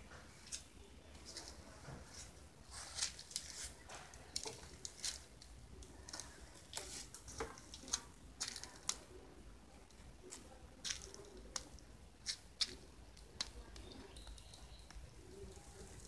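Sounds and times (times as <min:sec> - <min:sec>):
faint clicks and scuffs: 0:00.1 - 0:09.2, 0:09.8 - 0:16.0.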